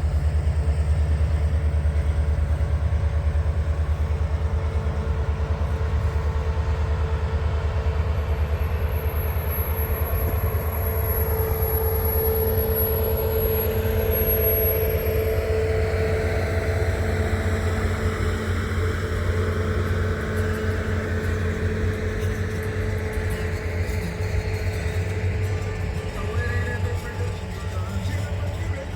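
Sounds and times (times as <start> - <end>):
engine running: 0.0 - 28.9.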